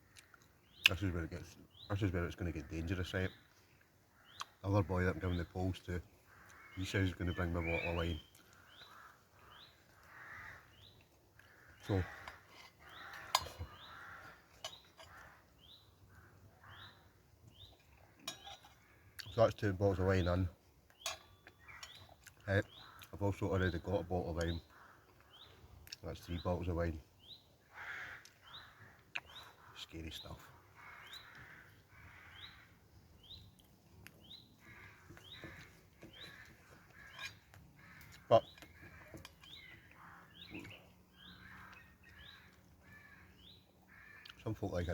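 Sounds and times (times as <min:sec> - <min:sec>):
lower rough bird calls: 0:00.0 - 0:44.9
small bird chirping: 0:00.1 - 0:27.6, 0:28.2 - 0:44.9.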